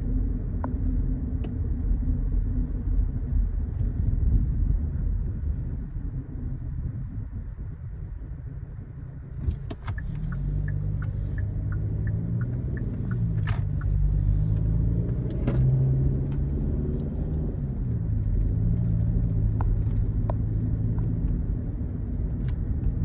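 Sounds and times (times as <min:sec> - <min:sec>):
car engine hum: 0:00.0 - 0:23.0
road rumble: 0:00.0 - 0:23.0.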